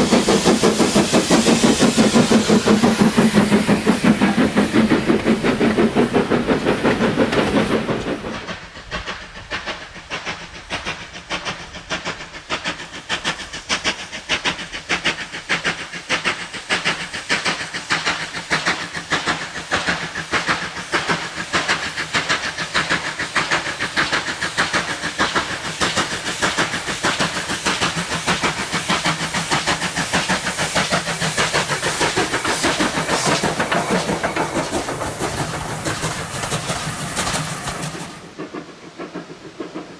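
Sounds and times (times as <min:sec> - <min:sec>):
train coaches rumbling past: 0:00.0 - 0:13.6, 0:20.5 - 0:39.9
steam locomotive exhaust chuffing: 0:00.0 - 0:39.9.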